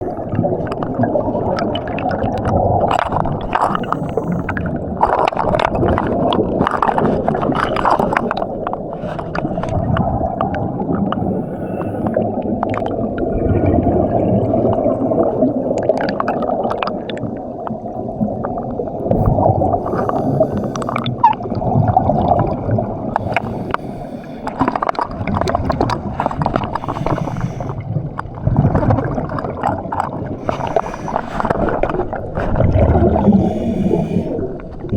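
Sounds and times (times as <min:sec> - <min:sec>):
sea water gurgling and sloshing: 0:00.0 - 0:34.9.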